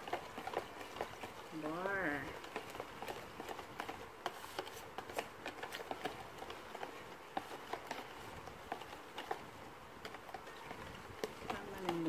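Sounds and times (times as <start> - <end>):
utensil scraping and clicking cookware: 0.0 - 12.0.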